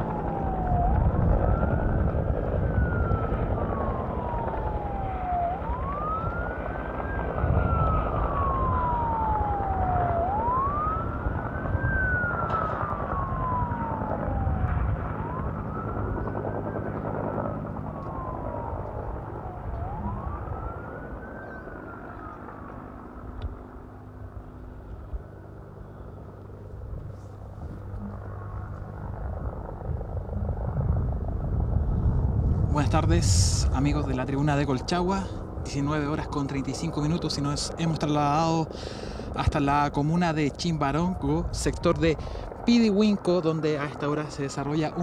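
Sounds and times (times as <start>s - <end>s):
emergency siren wailing: 0.0s - 45.0s.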